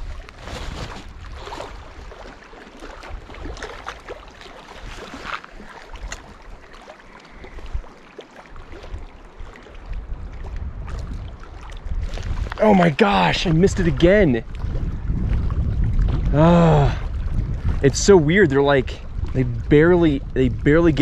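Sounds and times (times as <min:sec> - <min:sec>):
lake waves lapping on rocks: 0:00.0 - 0:21.0
wind rumble on microphone: 0:00.0 - 0:21.0.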